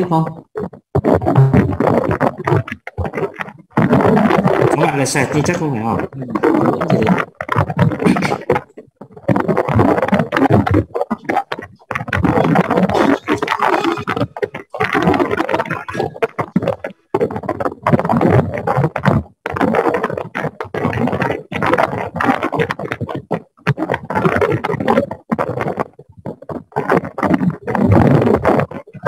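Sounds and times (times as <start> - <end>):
scratchy crackling interference: 0.0 - 29.0.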